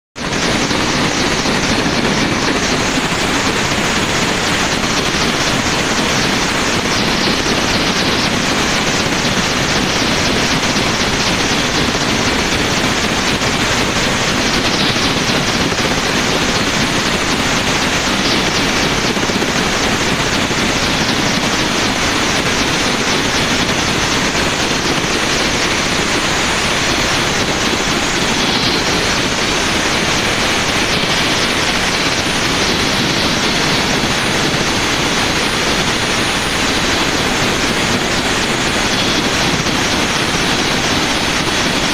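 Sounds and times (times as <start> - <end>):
helicopter engine and rotor: 0.2 - 41.9.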